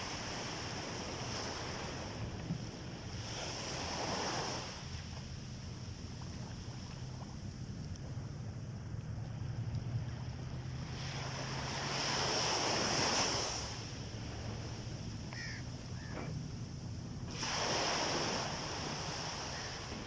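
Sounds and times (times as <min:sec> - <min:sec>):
sea waves washing onto beach: 0:00.0 - 0:20.0.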